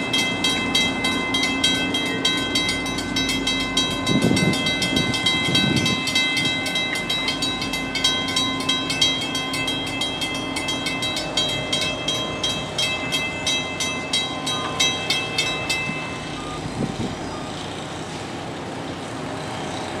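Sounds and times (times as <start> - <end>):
steady high ringing: 0.0 - 18.4
train rolling over tracks: 0.0 - 20.0.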